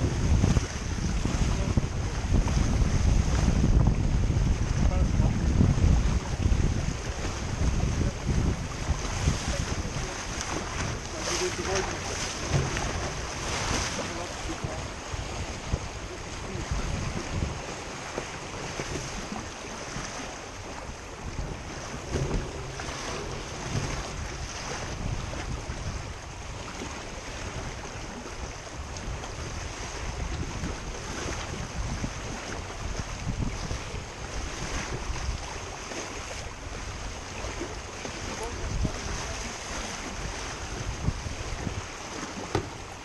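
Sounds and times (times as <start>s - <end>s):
water splashing along hull: 0.0s - 43.0s
wind buffeting microphone: 0.0s - 43.0s.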